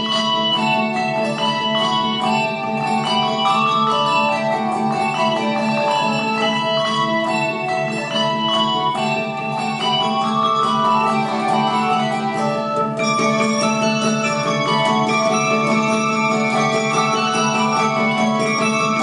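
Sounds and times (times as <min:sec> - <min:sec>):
instrumental ensemble playing: 0:00.0 - 0:19.0.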